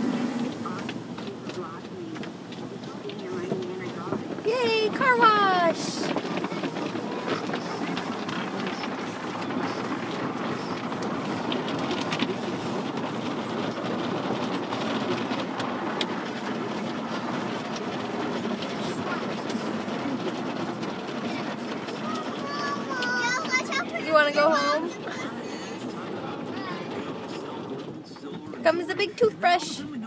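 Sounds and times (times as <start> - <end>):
car wash water spray and machinery: 0.0 - 30.0.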